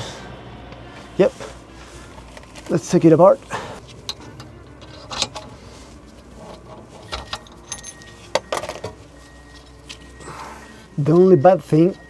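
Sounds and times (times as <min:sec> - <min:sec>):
small parts and tools clinking: 0:00.7 - 0:12.0.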